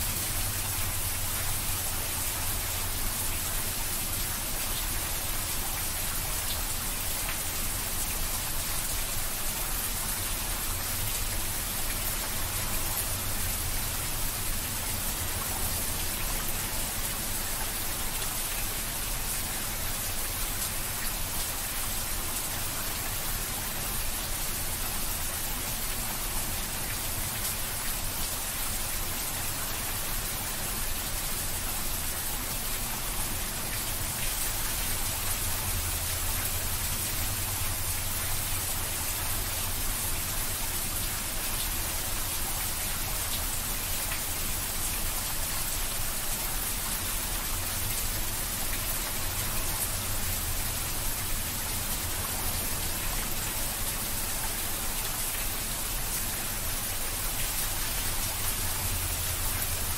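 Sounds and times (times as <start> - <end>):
heavy rain splashing on puddles: 0.0 - 59.9.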